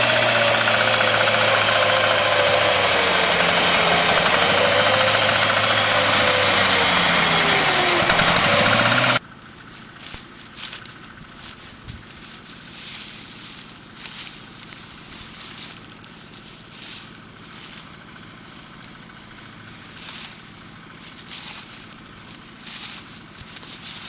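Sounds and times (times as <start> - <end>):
harvester engine and threshing machinery: 0.0 - 24.0.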